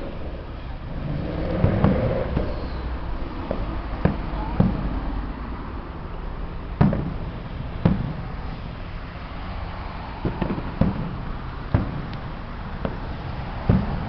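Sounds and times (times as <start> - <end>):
distant fireworks bangs: 0.0 - 5.2, 6.7 - 14.0
low background rumble: 0.0 - 14.0.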